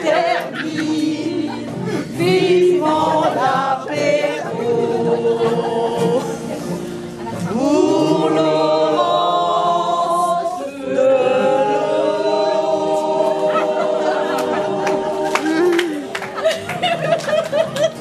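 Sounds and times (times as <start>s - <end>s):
group singing unaccompanied: 0.0s - 16.2s.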